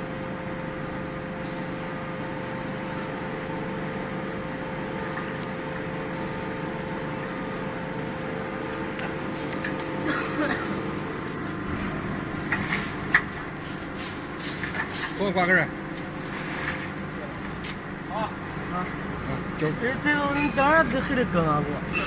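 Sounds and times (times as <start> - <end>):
hydraulic pump humming: 0.0 - 22.0.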